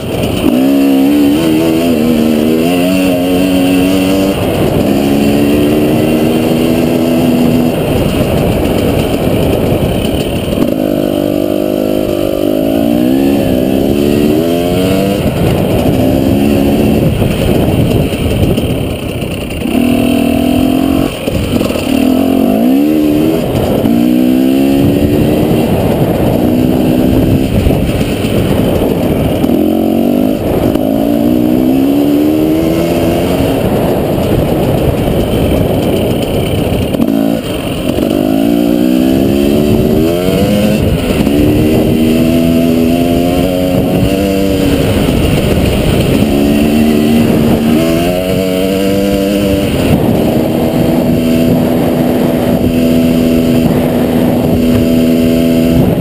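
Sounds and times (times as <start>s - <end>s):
dirt bike engine revving: 0.0s - 56.0s
wind rumble on camera: 0.0s - 56.0s.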